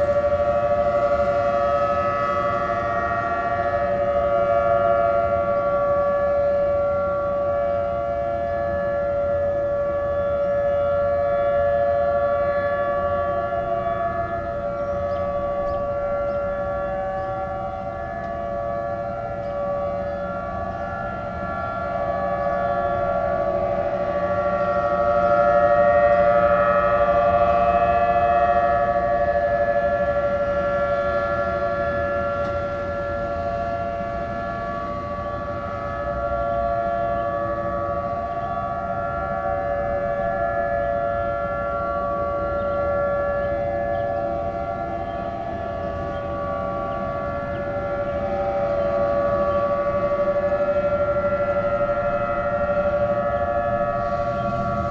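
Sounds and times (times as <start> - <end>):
tornado warning siren: 0.0 - 54.9.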